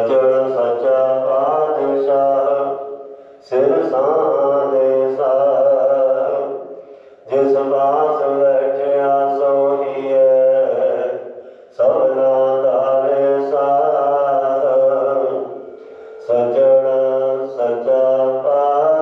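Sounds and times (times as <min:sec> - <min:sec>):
man chanting melodic phrases: 0:00.0 - 0:19.0.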